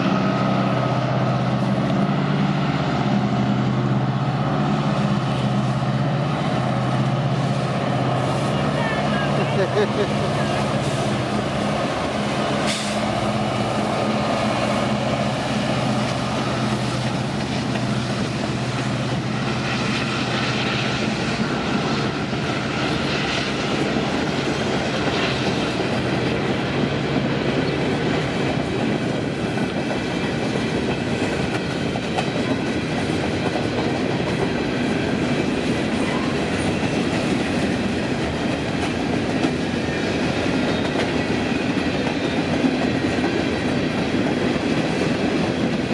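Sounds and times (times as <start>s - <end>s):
locomotive engine drone: 0.0s - 45.9s.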